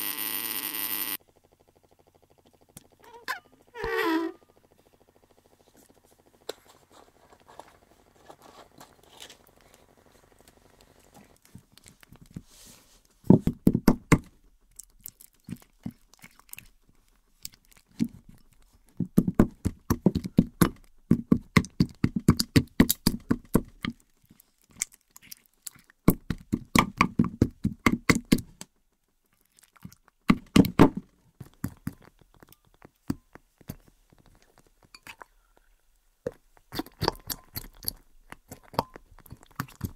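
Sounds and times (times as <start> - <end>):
faint steady hum: 0.0 - 39.9
spoon stirring slime over dry ice: 5.7 - 39.9.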